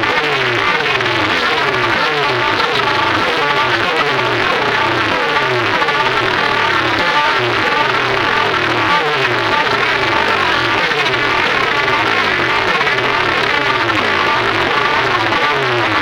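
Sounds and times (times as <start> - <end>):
falling pitch sweep: 0.0 - 16.0
loud distorted music: 0.0 - 16.0
pulsing bass line: 0.0 - 16.0.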